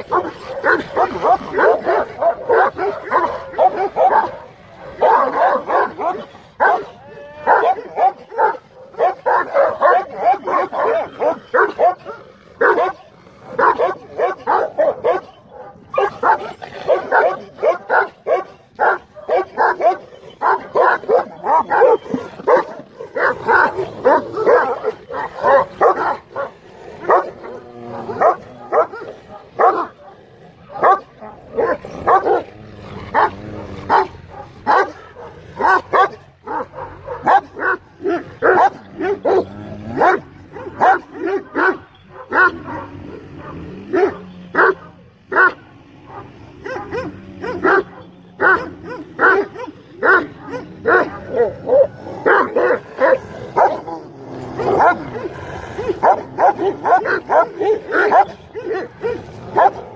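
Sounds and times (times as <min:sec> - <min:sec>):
dogs barking aggressively: 0:00.0 - 0:59.9.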